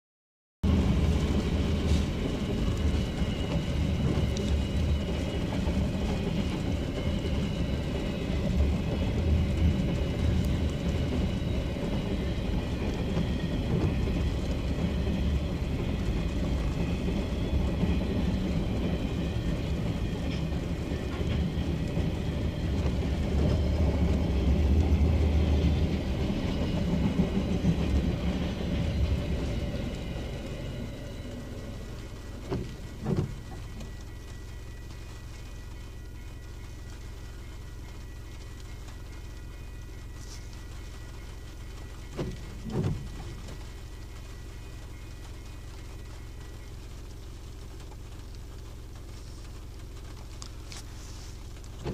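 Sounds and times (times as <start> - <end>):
freight train rumbling past: 0.6 - 47.6.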